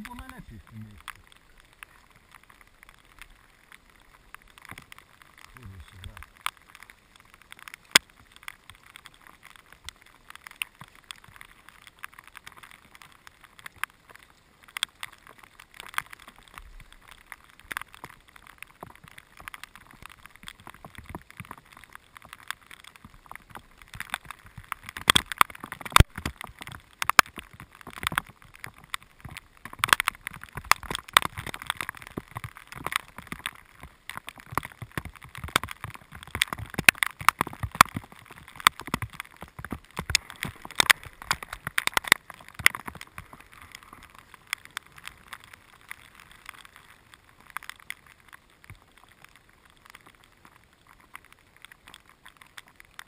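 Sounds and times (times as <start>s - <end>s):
raindrops tapping on camera: 0.0s - 53.0s.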